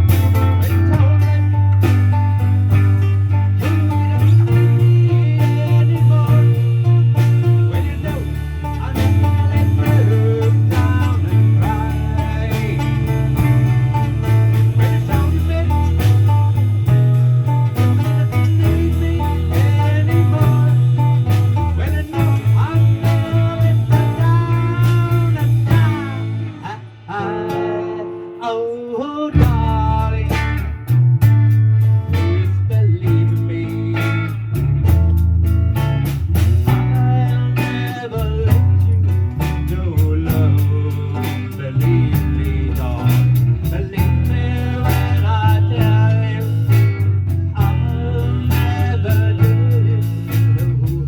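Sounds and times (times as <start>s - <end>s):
bass line: 0.0s - 51.0s
strummed guitar chords: 0.0s - 51.0s.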